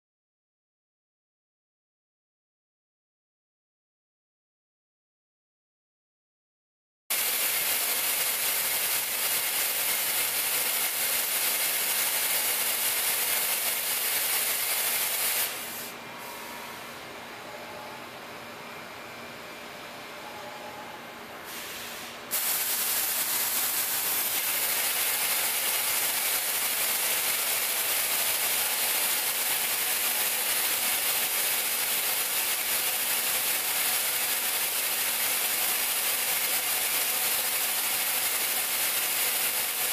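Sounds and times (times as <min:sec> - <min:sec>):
machining center hiss and hum: 0:07.1 - 0:39.9.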